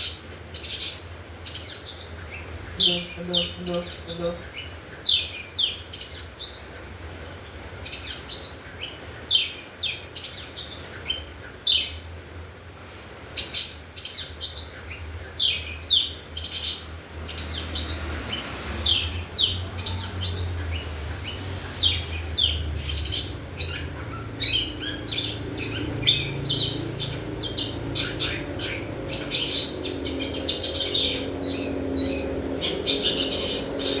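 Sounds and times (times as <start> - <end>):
bird chirping: 0.0 - 6.8, 13.4 - 34.0.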